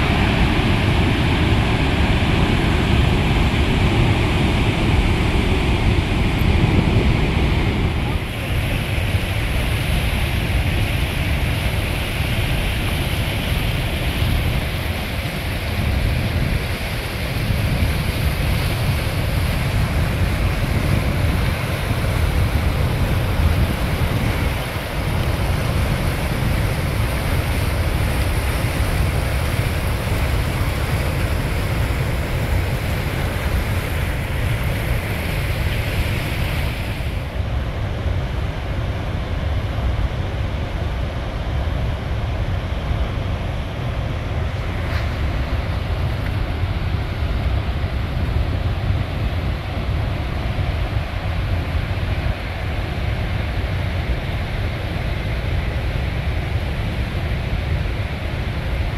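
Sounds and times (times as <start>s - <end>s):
rushing water of rapids: 0.0s - 58.9s
wind buffeting microphone: 0.0s - 58.9s.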